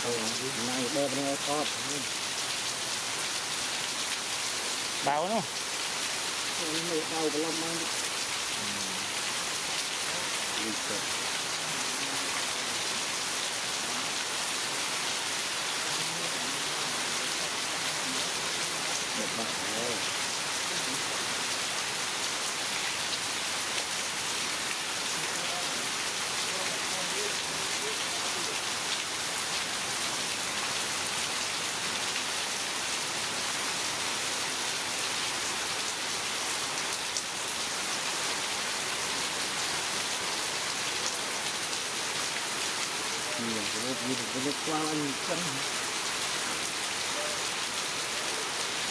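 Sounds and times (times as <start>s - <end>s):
heavy rain falling: 0.0s - 48.9s
raindrops pattering on surfaces: 0.0s - 48.9s.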